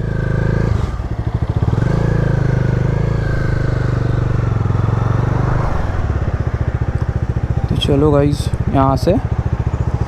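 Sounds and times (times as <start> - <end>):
motorcycle engine running at low revs: 0.0 - 10.0.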